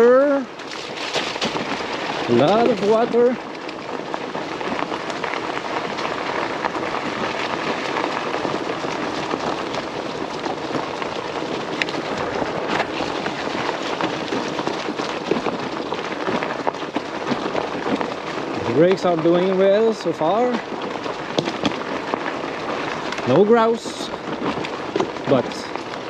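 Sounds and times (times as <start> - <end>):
bike tyres rolling on dirt trail: 0.0 - 26.0.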